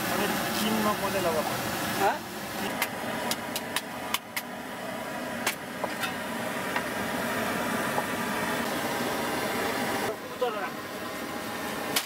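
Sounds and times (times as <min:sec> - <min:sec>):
camp stove burner rushing: 0:00.0 - 0:12.0.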